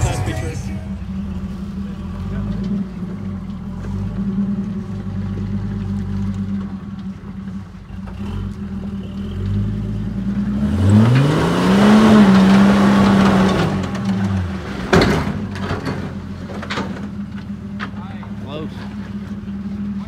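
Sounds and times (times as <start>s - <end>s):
truck engine idling and revving: 0.0s - 20.0s
tyres on loose dirt: 0.0s - 20.0s.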